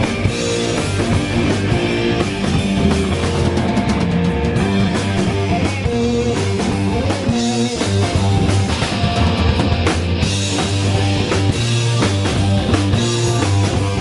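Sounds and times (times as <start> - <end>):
drum kit: 0.0 - 14.0
electric guitar: 0.0 - 14.0.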